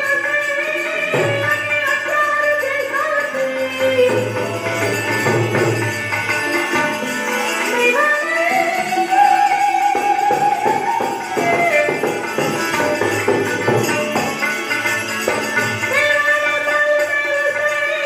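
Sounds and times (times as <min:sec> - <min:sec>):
rhythmic percussion: 0:00.0 - 0:18.0.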